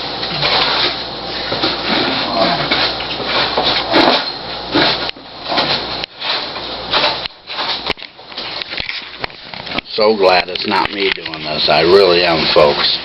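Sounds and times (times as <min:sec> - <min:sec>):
cat litter scraping and rustling: 0:00.3 - 0:13.0.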